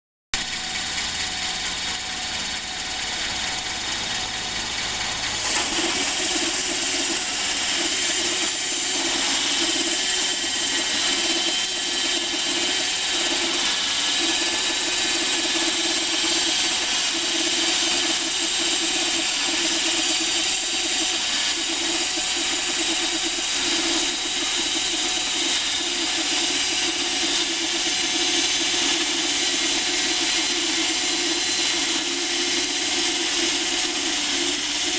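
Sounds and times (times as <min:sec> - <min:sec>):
saw blade cutting wood: 0:00.4 - 0:34.9
sawmill drive humming: 0:00.4 - 0:34.9.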